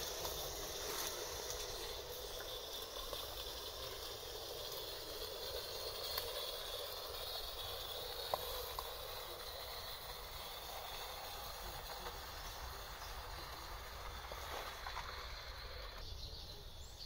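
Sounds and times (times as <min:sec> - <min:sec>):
steam locomotive hissing: 0:00.0 - 0:16.9.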